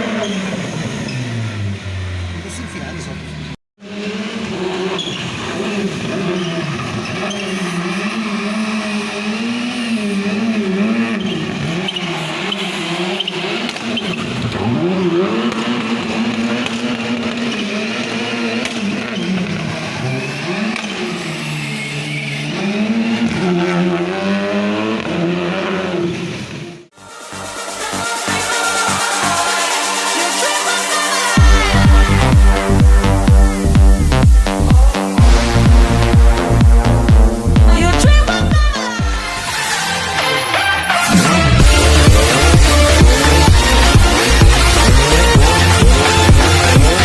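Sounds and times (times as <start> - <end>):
rally car engine revving: 0.0 - 27.0, 28.2 - 47.0.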